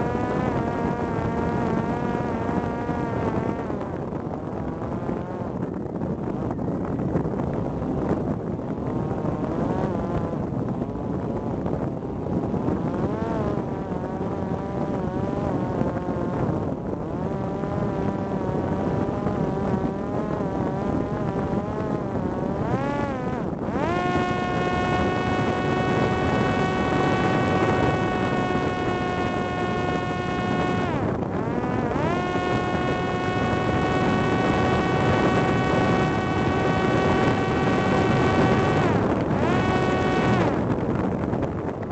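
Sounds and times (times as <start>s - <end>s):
drone propeller whining: 0.0s - 41.9s
wind rush on microphone: 0.0s - 41.9s.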